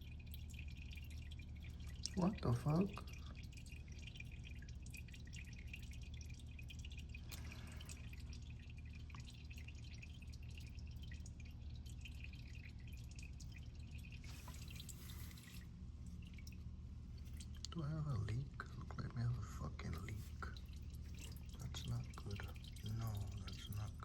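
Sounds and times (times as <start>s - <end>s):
low steady hum: 0.0s - 24.0s
oil dripping: 0.0s - 24.0s.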